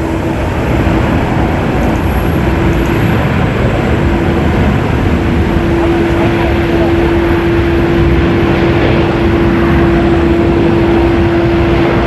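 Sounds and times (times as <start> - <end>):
loud jet engine noise: 0.0 - 12.0.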